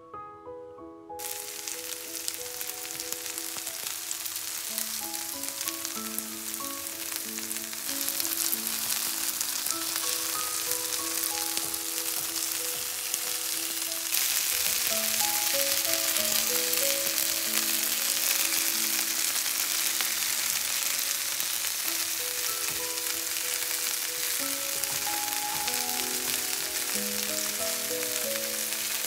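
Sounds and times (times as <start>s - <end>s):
light melody of single notes: 0.0s - 29.0s
patties sizzling in oil: 1.2s - 29.0s.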